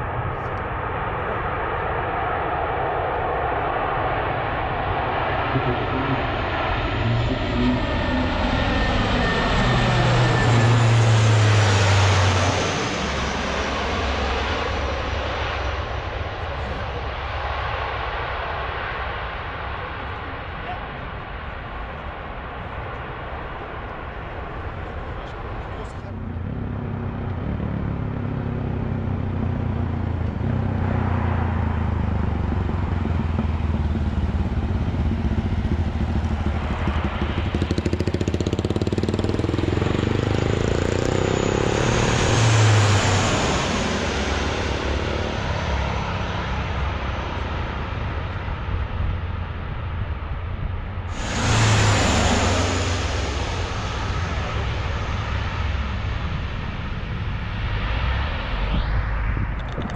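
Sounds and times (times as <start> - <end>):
engine drone with rushing hiss: 0.0 - 59.9.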